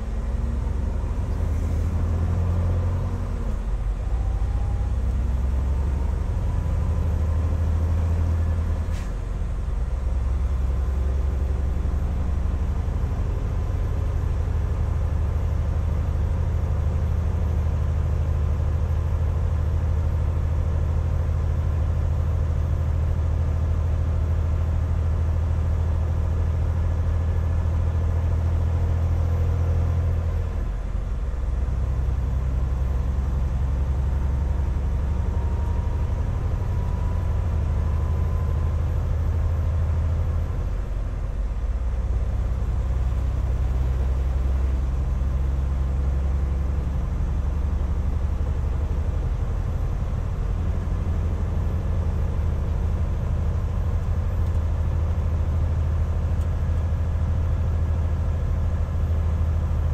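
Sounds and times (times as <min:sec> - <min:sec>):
truck diesel engine pulling: 0:00.0 - 0:18.1, 0:24.5 - 0:59.9.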